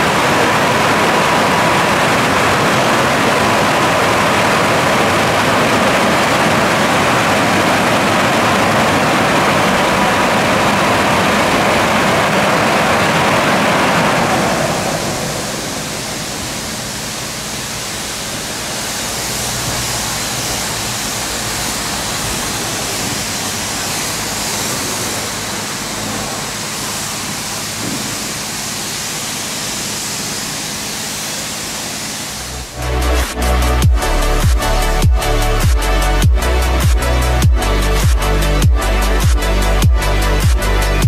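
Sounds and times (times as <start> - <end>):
car wash blowers rushing air: 0.0 - 41.0.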